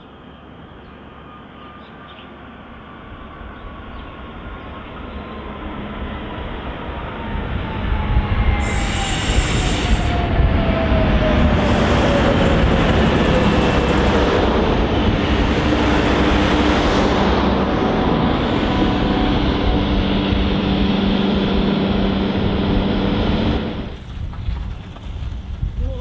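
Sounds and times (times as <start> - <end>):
diesel railcar passing: 0.0 - 25.8.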